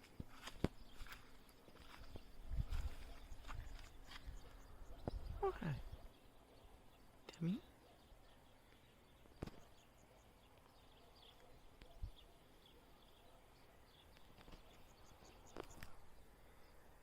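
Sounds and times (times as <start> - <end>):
faint high bird chirps: 0.4 - 16.9.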